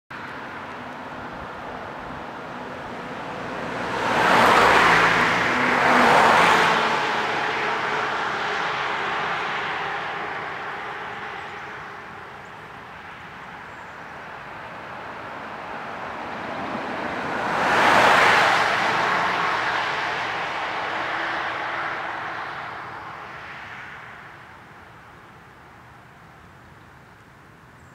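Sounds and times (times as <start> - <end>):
cars passing on road: 0.1 - 27.9.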